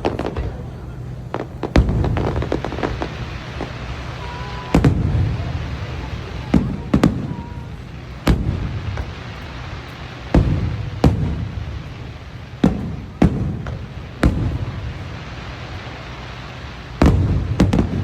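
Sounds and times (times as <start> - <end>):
fireworks booming: 0.0 - 18.0
fireworks crackling pops: 0.0 - 18.0.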